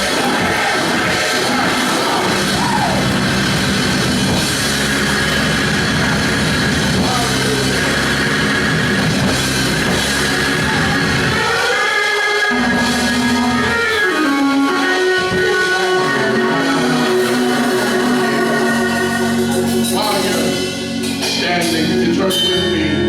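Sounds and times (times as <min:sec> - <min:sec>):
drum kit: 0:00.0 - 0:22.9
live band instrumental music: 0:00.0 - 0:23.0.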